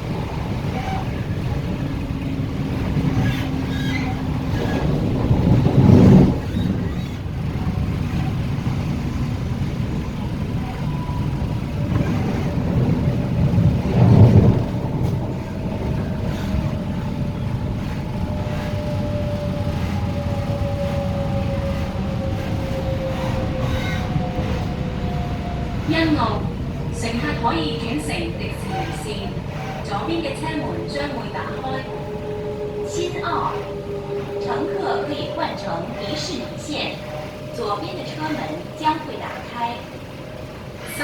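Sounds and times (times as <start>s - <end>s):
train motor whine: 0.0s - 41.0s
train wheels rumbling: 0.0s - 41.0s.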